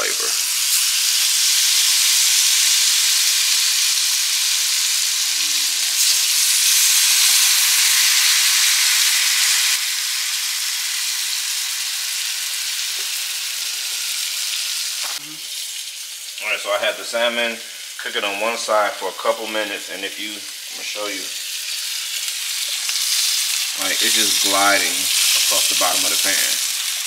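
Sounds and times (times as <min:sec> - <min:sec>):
fish sizzling in a frying pan: 0:00.0 - 0:18.3, 0:20.4 - 0:27.0.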